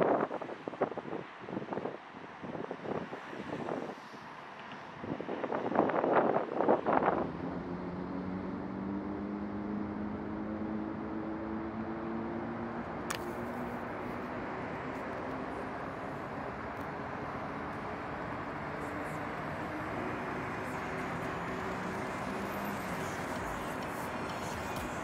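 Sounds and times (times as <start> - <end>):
city traffic noise: 0.0 - 25.0.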